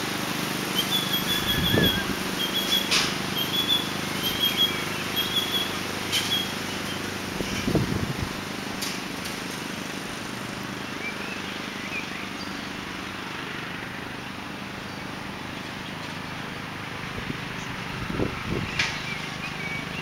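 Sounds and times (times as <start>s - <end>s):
ride-on mower engine running: 0.0s - 20.0s.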